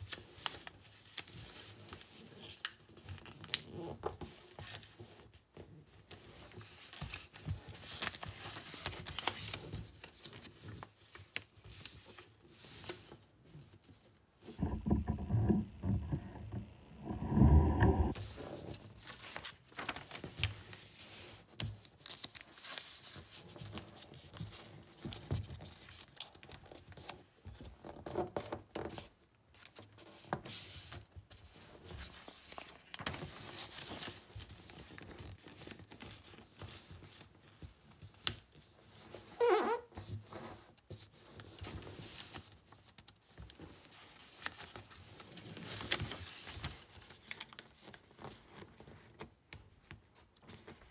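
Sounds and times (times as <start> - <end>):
paper rustling and crinkling: 0.0 - 14.6, 18.1 - 39.3, 40.0 - 50.9.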